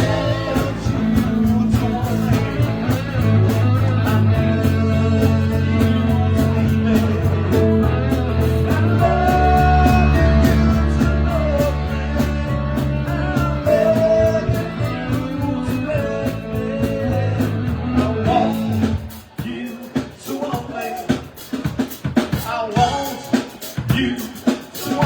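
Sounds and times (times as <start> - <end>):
drums playing: 0.0 - 25.0
live rock band playing: 0.0 - 25.0.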